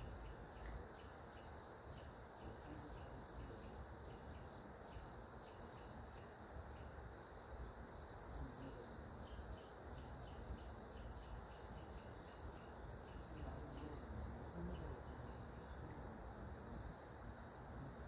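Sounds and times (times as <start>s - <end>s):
insect chirping: 0.0s - 18.0s
steady high hiss: 0.0s - 18.0s.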